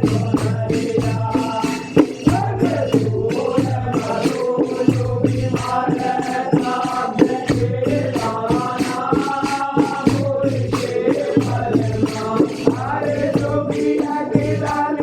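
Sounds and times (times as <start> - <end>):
percussion strikes: 0.0 - 15.0
voices singing devotional song: 0.0 - 15.0.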